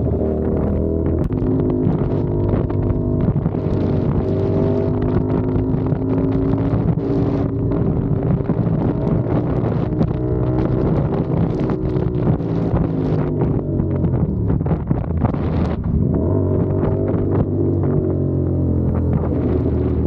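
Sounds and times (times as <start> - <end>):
motorcycle engine riding: 0.0 - 20.0
wind buffeting microphone: 0.0 - 20.0.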